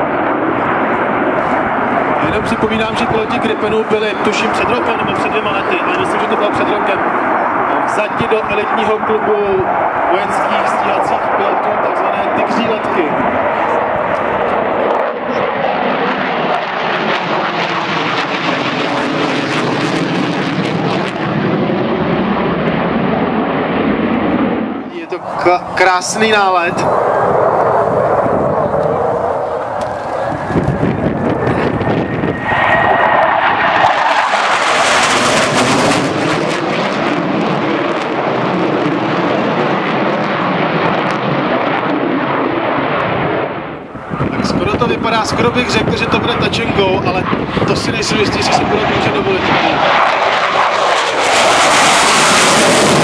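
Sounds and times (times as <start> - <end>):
jet fighters passing overhead: 0.0 - 53.0.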